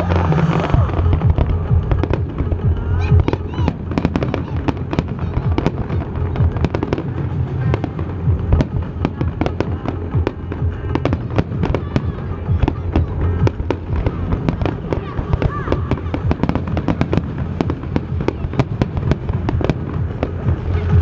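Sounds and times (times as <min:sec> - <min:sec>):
fireworks bangs and cracks: 0:00.0 - 0:21.0
low rumble: 0:00.0 - 0:21.0.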